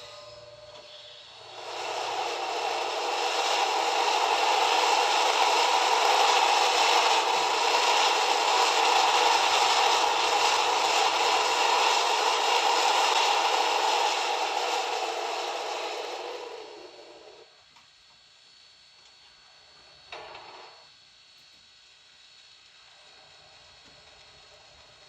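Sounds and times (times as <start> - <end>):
model train rattling whir: 0.0 - 17.5, 19.8 - 20.8, 22.6 - 25.0.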